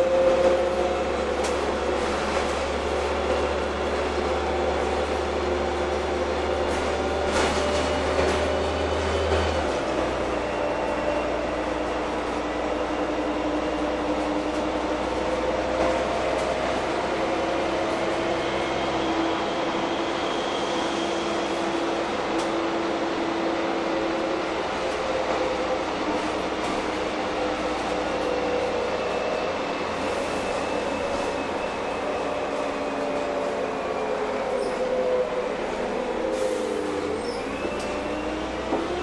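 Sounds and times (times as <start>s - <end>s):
bus engine drone with whine: 0.0s - 39.0s.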